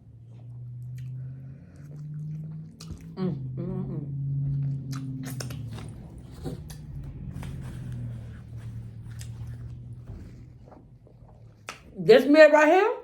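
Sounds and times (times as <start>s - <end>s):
close chewing and mouth smacks: 0.0s - 3.2s, 4.3s - 12.0s
low steady hum: 0.0s - 13.0s.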